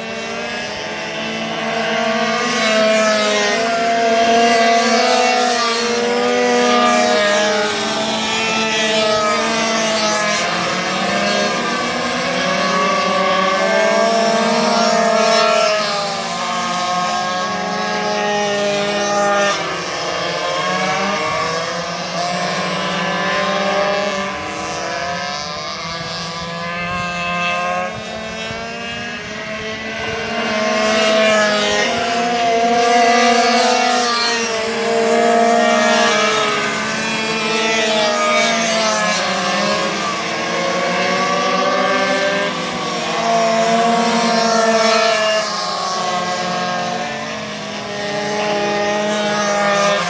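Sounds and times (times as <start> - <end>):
minibike two-stroke engines revving: 0.0 - 50.0.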